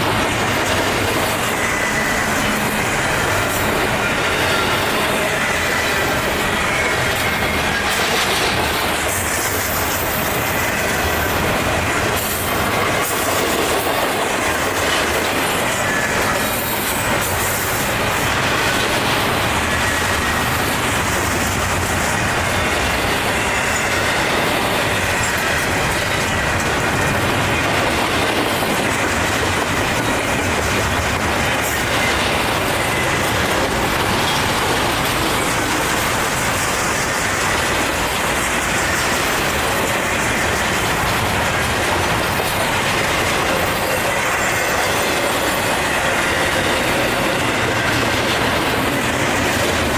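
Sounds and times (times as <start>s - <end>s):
train wheels clacking over rail joints: 0.0s - 49.9s.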